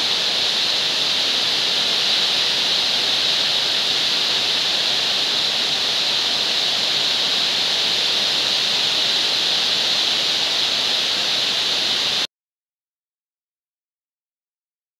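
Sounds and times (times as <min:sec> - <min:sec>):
heavy rain pouring: 0:00.0 - 0:12.3.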